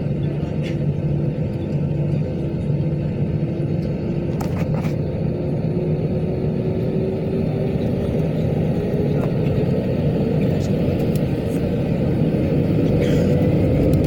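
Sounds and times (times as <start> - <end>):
jet engines and wheels rumbling: 0.0 - 14.0.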